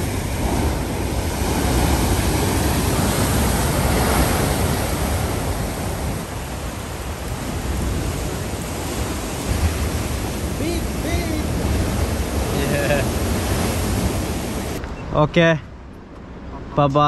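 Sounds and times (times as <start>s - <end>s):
waves crashing on rocky shore: 0.0s - 14.8s.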